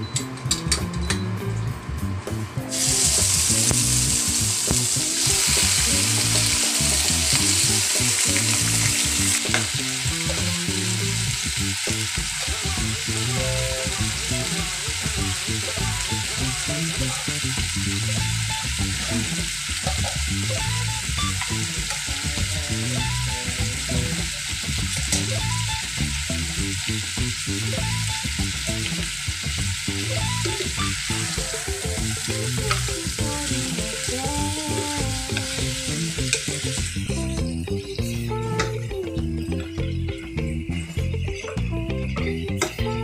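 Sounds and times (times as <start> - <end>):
meat sizzling in hot oil: 2.7 - 38.0.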